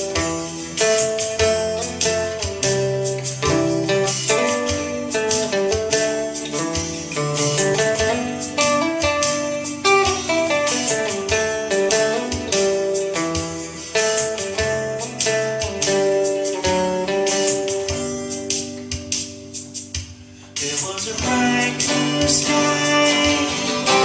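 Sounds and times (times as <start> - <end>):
acoustic guitar picked melody: 0.0 - 24.0.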